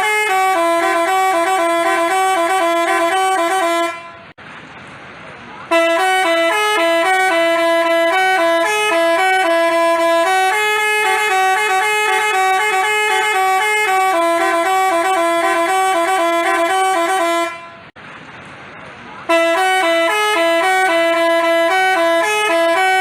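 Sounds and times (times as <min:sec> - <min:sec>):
multi-tone bus horn tune: 0:00.0 - 0:04.4, 0:05.7 - 0:18.0, 0:19.2 - 0:23.0.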